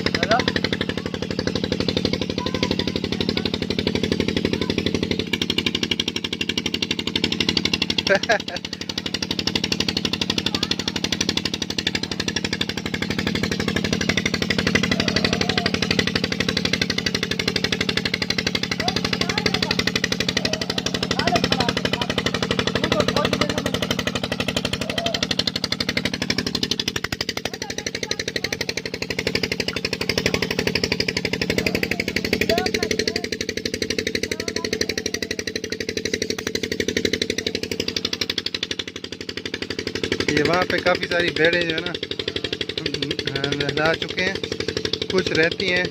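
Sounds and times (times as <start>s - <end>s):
engine chugging: 0.0s - 45.9s.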